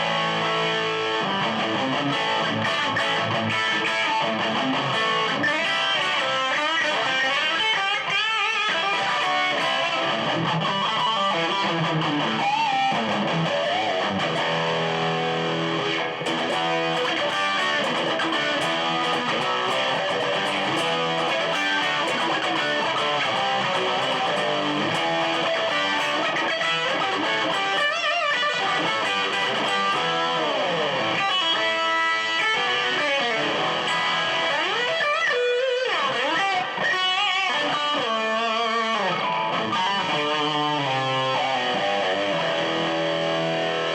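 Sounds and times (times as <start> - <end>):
distorted electric guitar: 0.0 - 43.9.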